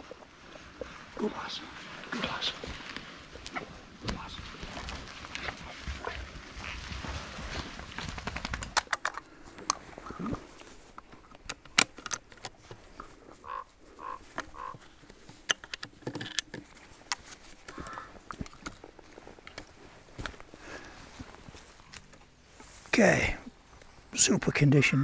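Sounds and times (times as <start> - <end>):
rustling through undergrowth: 0.0 - 25.0
twigs snapping underfoot: 2.6 - 22.7.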